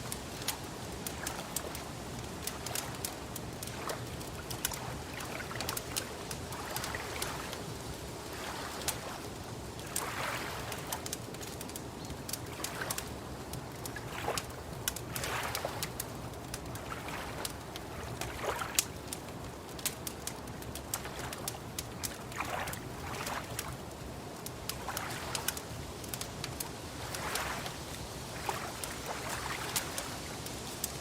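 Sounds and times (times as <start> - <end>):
fire pops and snaps: 0.0 - 8.1, 8.8 - 31.0
wood fire crackling: 0.0 - 31.0.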